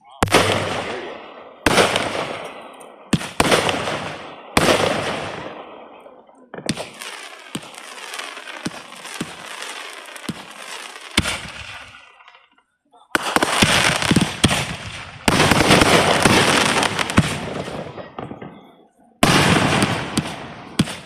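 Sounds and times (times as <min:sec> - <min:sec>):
fireworks crackling: 0:00.0 - 0:18.5, 0:19.2 - 0:21.0
fireworks booming: 0:00.0 - 0:21.0
sharp fireworks pops: 0:00.0 - 0:21.0.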